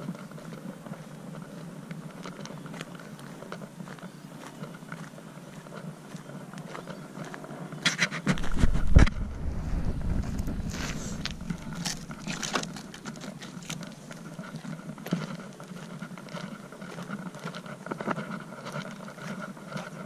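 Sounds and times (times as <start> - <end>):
footsteps on gravel: 0.0 - 20.0.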